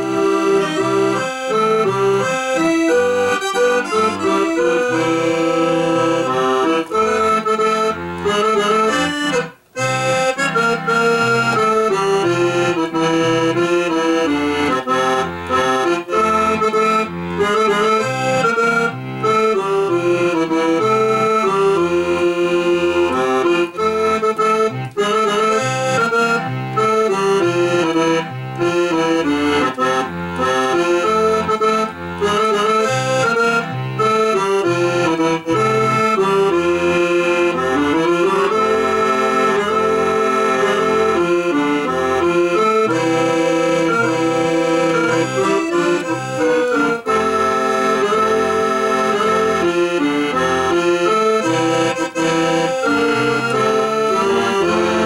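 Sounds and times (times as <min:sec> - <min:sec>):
accordion playing a waltz: 0:00.0 - 0:55.0.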